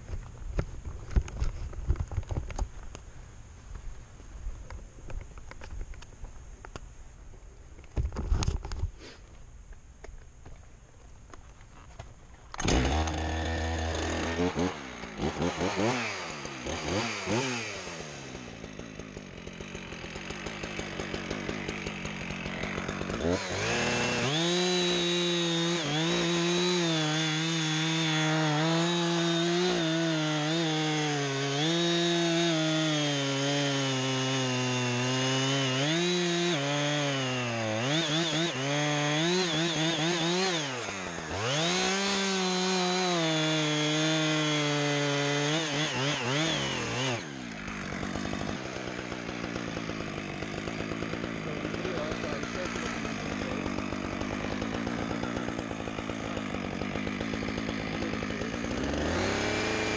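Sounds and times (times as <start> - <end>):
chainsaw cutting wood: 0.0 - 3.0, 7.7 - 59.9.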